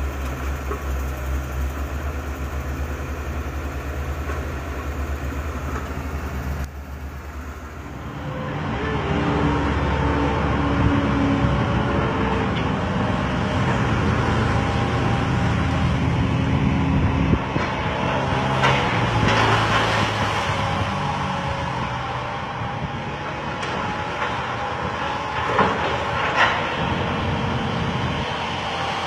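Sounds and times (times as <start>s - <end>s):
excavator diesel engines running: 0.0s - 29.0s.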